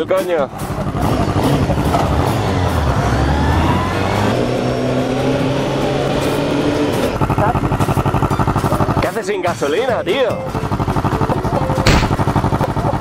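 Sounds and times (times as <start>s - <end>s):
motorcycle engine accelerating: 0.6s - 9.2s, 10.0s - 13.0s.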